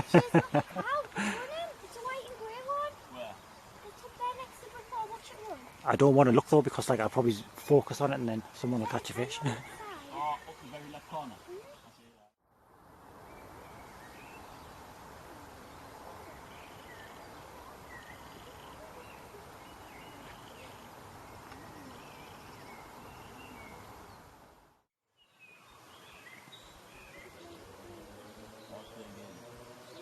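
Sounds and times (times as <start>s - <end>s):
small birds chirping: 0.0s - 12.3s, 13.2s - 24.4s, 25.1s - 30.0s
outdoor background noise: 0.0s - 30.0s.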